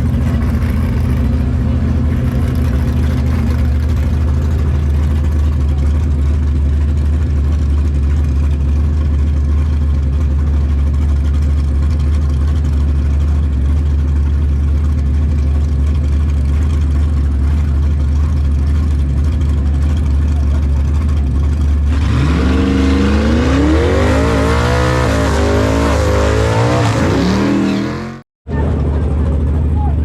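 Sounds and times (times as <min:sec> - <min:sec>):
car engine running steadily: 0:00.0 - 0:30.0.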